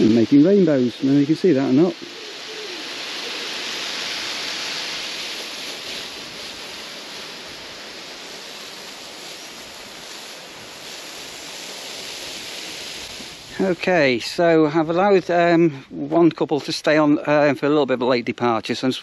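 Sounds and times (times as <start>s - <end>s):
garden hose spraying water: 0.0s - 19.0s.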